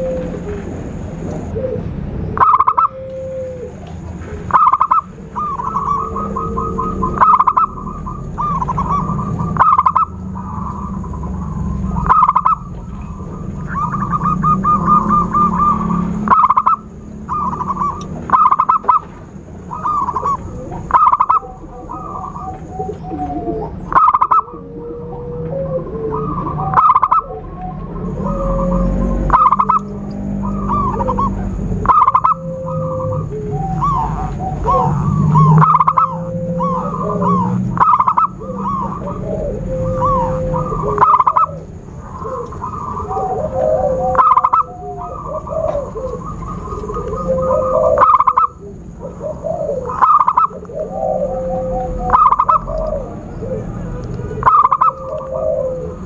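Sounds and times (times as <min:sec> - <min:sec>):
doves cooing and trilling: 0:00.0 - 0:56.0
steady low hum: 0:00.0 - 0:56.0.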